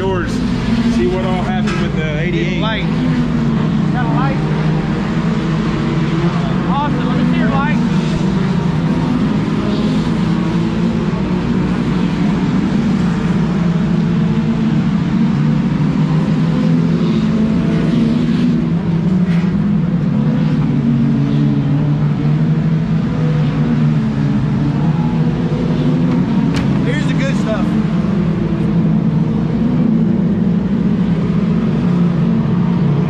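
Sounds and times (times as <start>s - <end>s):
engines droning: 0.0s - 33.0s.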